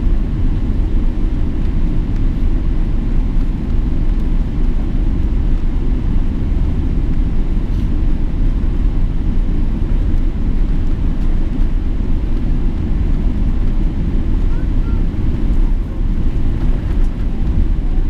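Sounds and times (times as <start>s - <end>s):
airplane low rumble: 0.0s - 18.0s.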